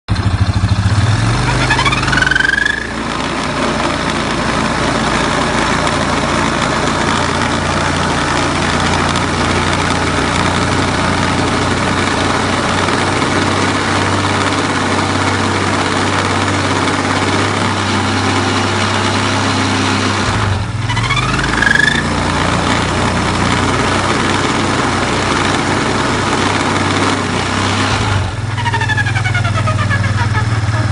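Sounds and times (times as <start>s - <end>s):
atv engine revving: 0.1s - 30.9s.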